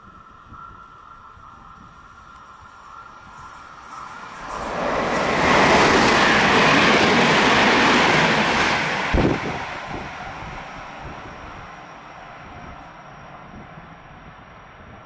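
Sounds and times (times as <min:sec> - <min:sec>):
train passing at speed: 0:01.8 - 0:15.0.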